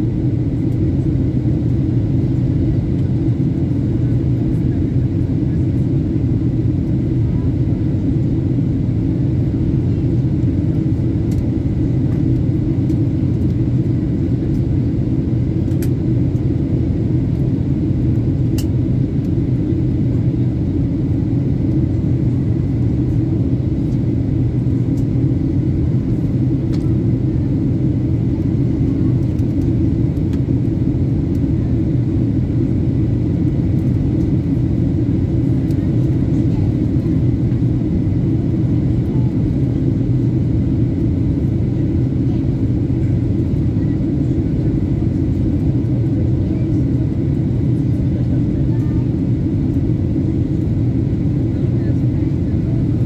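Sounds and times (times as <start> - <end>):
airliner engines rumbling in cabin: 0.0 - 53.0.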